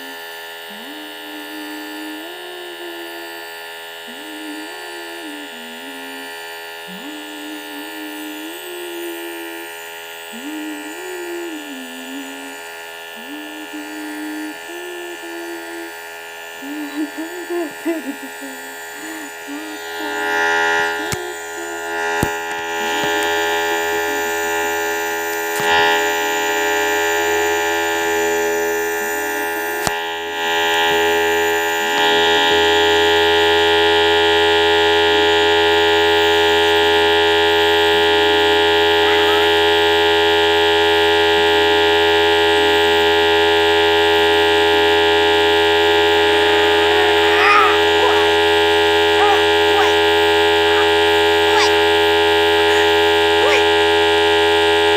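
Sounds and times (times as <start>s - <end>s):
nebulizer buzzing hum: 0.0s - 54.9s.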